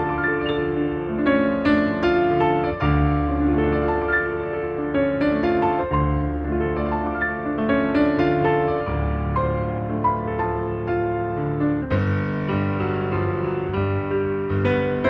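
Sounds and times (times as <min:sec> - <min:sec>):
piano melody with low bass notes: 0:00.0 - 0:15.0.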